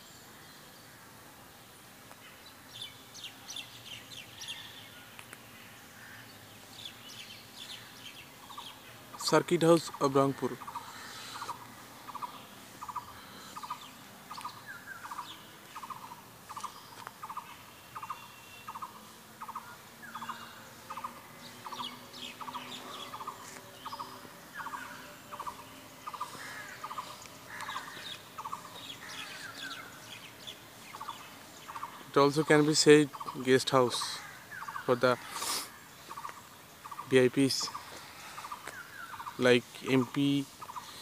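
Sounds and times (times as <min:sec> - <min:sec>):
birds chirping in background: 0:00.0 - 0:41.0
bird buzzy call: 0:02.3 - 0:41.0.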